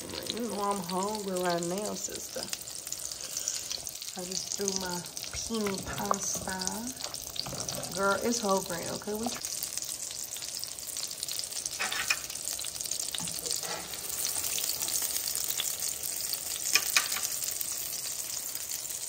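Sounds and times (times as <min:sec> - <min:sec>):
chicken sizzling in a skillet: 0:00.0 - 0:19.0.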